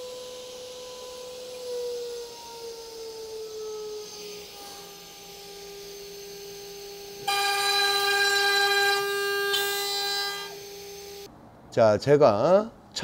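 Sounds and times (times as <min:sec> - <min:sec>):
router cutting into wood: 0:00.0 - 0:11.3
router spindle whining: 0:00.0 - 0:11.3.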